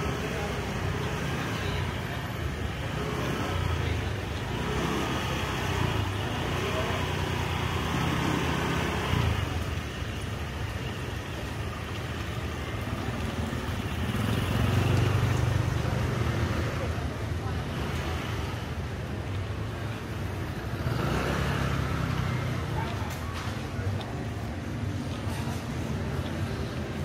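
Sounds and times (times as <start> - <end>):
passing cars and motorbikes: 0.0 - 27.0
road noise: 0.0 - 27.0.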